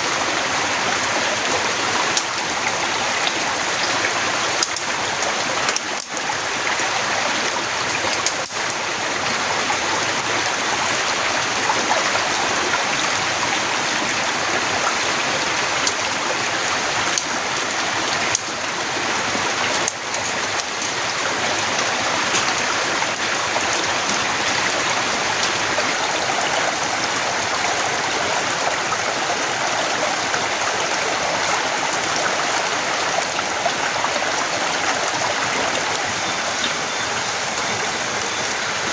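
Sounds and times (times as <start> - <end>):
torrential rain pouring: 0.0 - 38.9.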